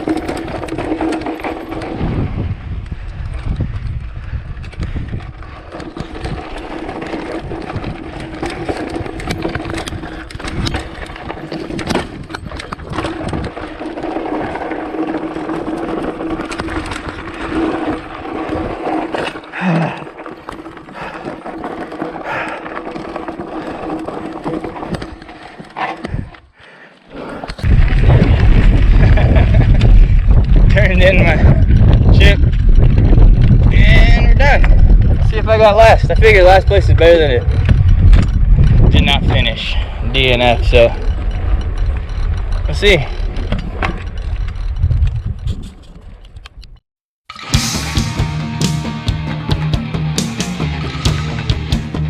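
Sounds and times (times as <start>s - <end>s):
bike tyres rattling on dirt trail: 0.0s - 46.7s.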